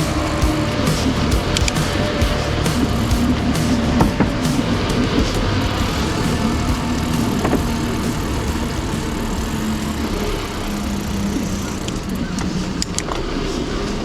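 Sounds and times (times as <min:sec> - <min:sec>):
bike tyre rumble: 0:00.0 - 0:14.0.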